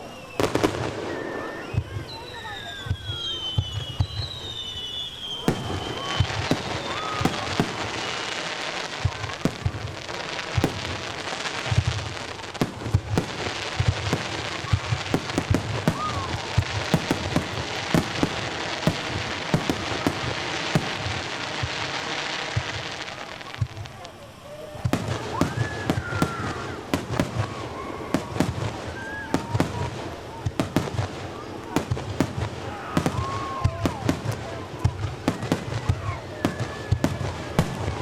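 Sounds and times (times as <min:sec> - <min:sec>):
crackling hiss of fireworks: 0:00.0 - 0:38.0
fireworks bangs: 0:00.0 - 0:38.0.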